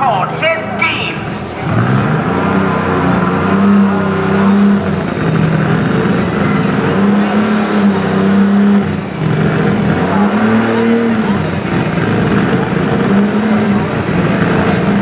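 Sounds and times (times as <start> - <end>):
tractor engine revving hard: 0.5 - 15.0.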